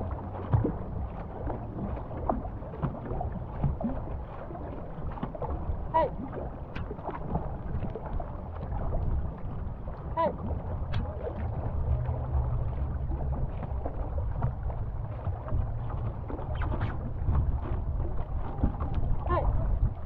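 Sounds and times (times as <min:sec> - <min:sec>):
paddles dipping through water: 0:00.0 - 0:20.0
water splashing along hull: 0:00.0 - 0:20.0
wind rumble on microphone: 0:00.0 - 0:20.0.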